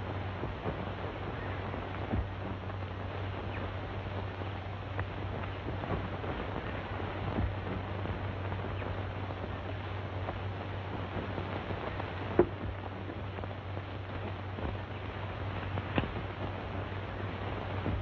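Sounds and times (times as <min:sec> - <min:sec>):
faint crackles: 0:00.0 - 0:18.0
film soundtrack hiss and hum: 0:00.0 - 0:18.0.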